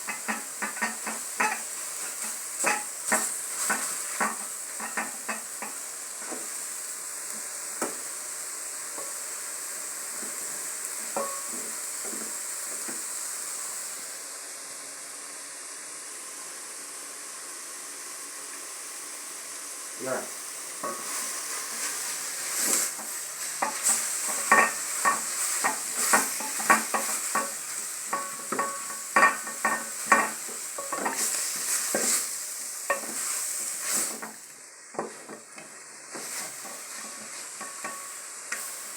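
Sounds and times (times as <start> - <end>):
vegetables sizzling in a pot: 0.0 - 38.9.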